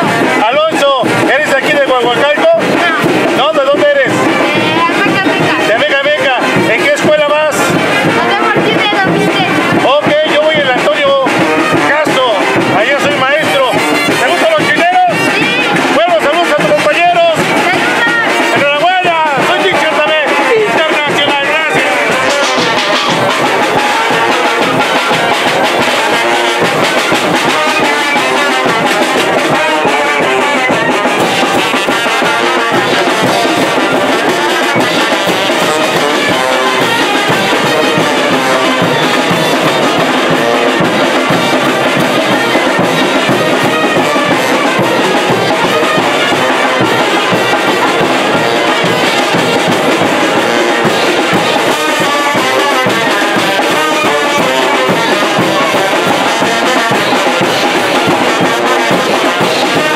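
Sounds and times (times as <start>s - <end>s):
bass drum: 0.0s - 59.9s
brass band playing dance music: 0.0s - 59.9s.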